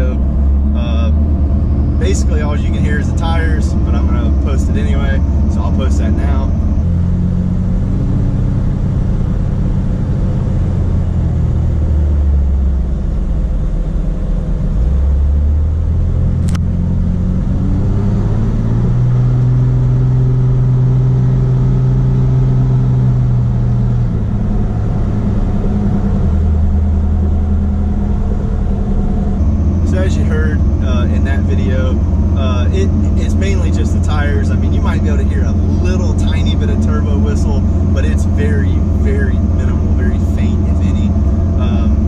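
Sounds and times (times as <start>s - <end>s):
low engine drone: 0.0s - 42.0s
tire noise: 0.0s - 42.0s.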